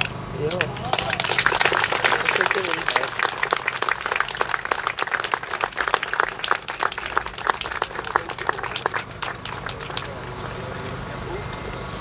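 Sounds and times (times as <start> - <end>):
small crowd applauding: 0.4 - 11.2.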